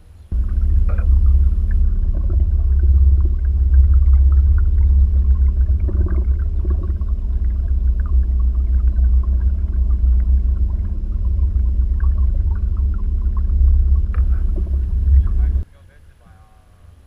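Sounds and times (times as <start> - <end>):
wind buffeting microphone: 0.0 - 15.6
faint water splashes: 0.0 - 17.0.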